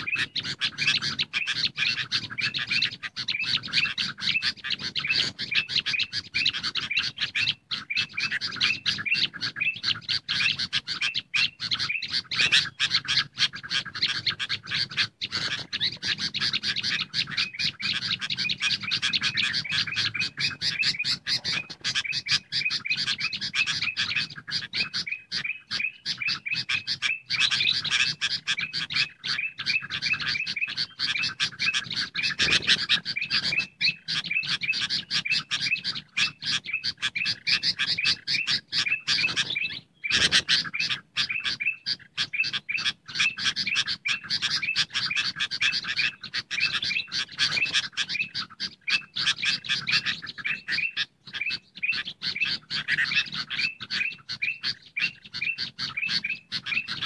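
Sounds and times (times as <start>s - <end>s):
bulbuls chattering chirps: 0.0s - 57.0s.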